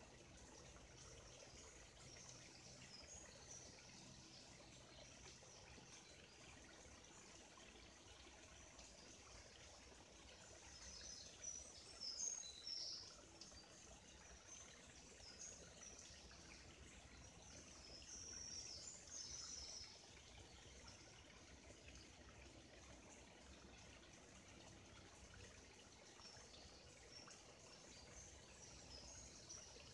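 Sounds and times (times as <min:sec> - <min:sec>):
running stream: 0:00.0 - 0:29.9.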